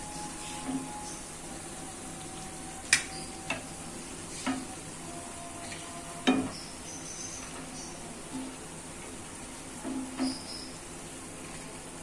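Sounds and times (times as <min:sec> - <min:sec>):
fritters sizzling in oil: 0:00.0 - 0:12.0.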